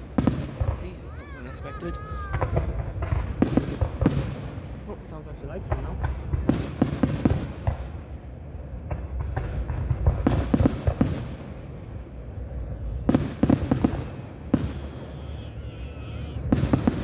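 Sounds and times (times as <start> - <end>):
distant fireworks rumble: 0.0 - 17.0
fireworks bangs: 0.0 - 17.0.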